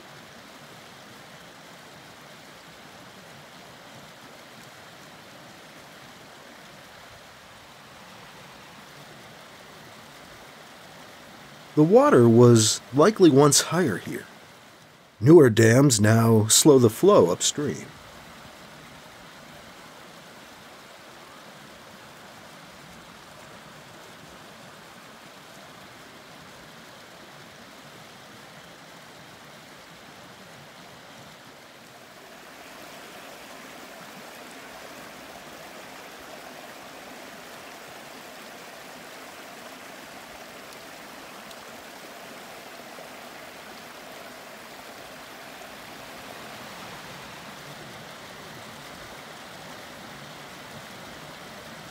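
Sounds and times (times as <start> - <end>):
brook running over rocks: 0.0 - 51.9.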